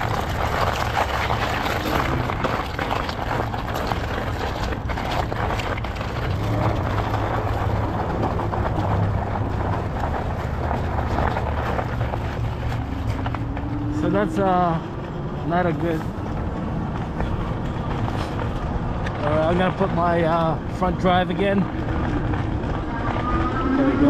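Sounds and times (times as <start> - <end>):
tyres and wind rushing: 0.0 - 24.0.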